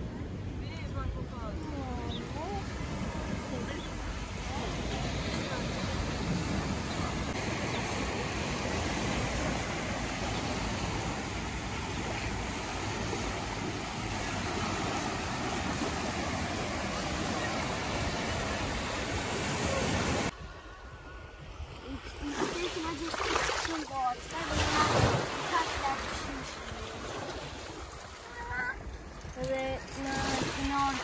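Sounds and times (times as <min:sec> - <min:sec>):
sea waves washing on shore: 0:01.8 - 0:31.0.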